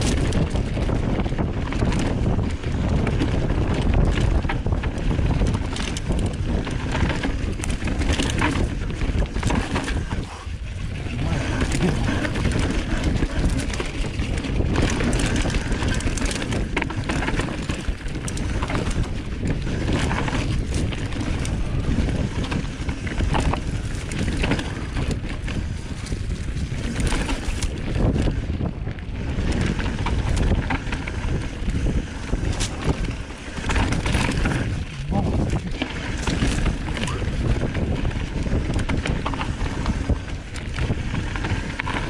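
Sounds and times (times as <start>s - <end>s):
bike knocking and rattling: 0.0s - 42.0s
wind buffeting microphone: 0.0s - 42.0s.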